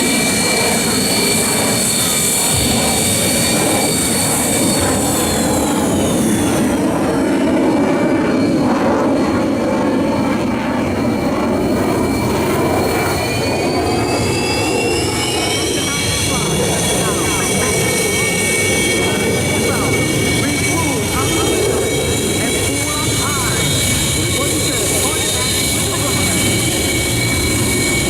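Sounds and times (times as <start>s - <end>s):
jet engines idling with turbine whine: 0.0s - 28.0s.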